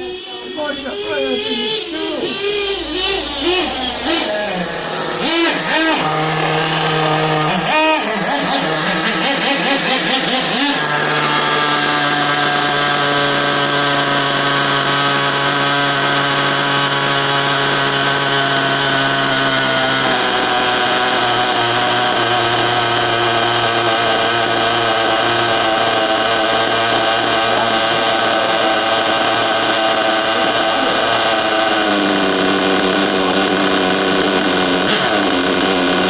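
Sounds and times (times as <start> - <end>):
rc car engine buzzing: 0.0 - 36.0.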